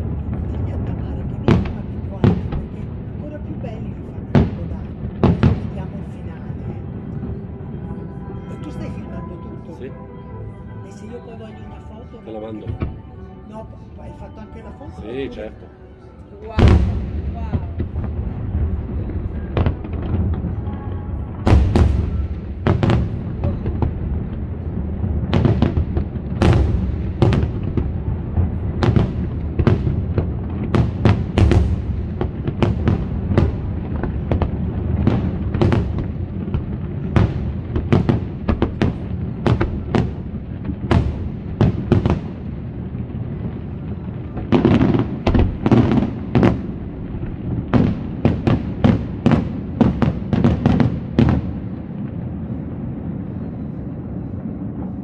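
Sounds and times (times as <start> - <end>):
fireworks bursting bangs: 0.0 - 9.8, 16.4 - 55.0
low rolling rumble: 0.0 - 55.0.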